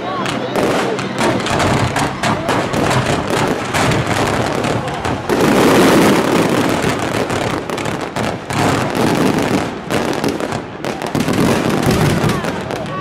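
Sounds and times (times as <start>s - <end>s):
fireworks bangs and crackle: 0.0s - 13.0s.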